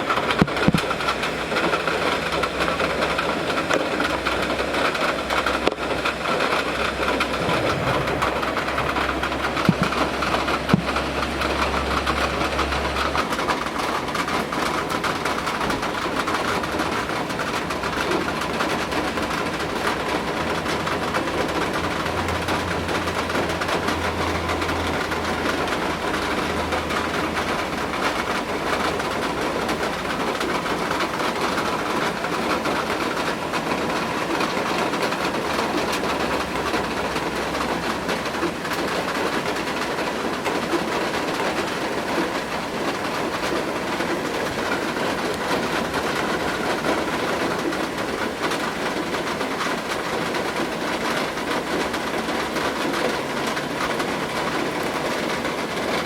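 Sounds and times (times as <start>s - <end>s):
steady rain: 0.0s - 56.0s
ticks of raindrops: 0.0s - 56.0s
wind: 0.0s - 56.0s.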